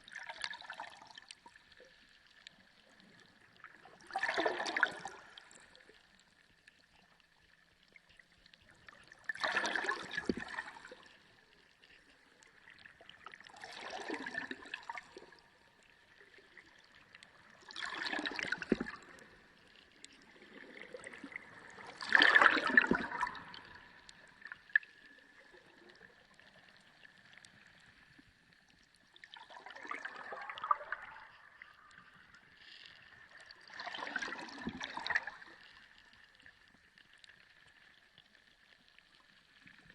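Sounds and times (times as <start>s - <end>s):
water gurgling and bubbling underwater: 0.0s - 39.9s.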